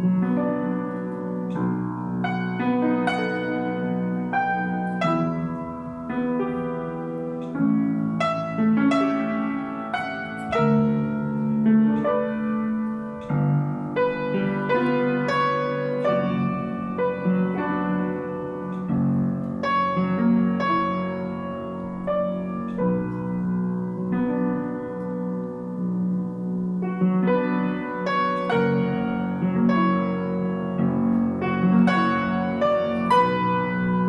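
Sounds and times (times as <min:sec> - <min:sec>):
slow solo piano: 0:00.0 - 0:34.0.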